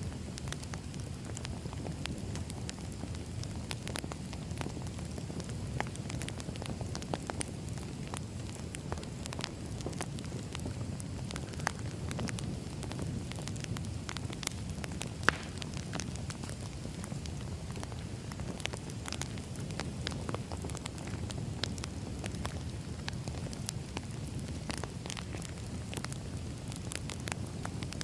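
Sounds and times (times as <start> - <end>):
firewood crackling and popping: 0.0 - 28.0
low rumble of flame: 0.0 - 28.0.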